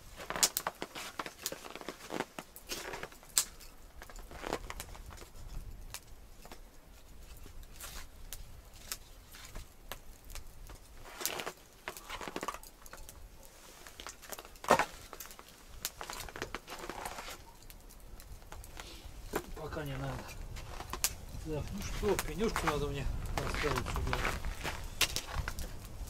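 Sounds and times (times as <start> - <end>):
campfire crackling and popping: 0.0 - 26.0
rustling of things handled: 0.0 - 26.0.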